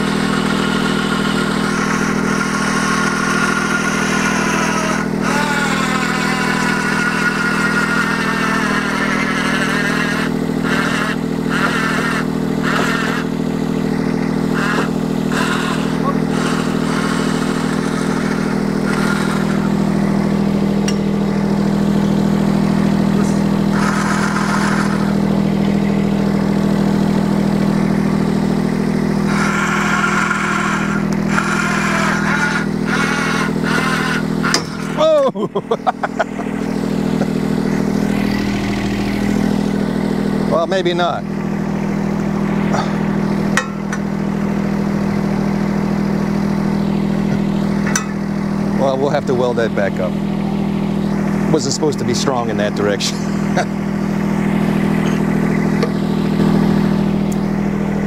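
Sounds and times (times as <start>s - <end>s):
electric winch motor whining: 0.0s - 58.0s
excavator engine running: 0.0s - 58.0s.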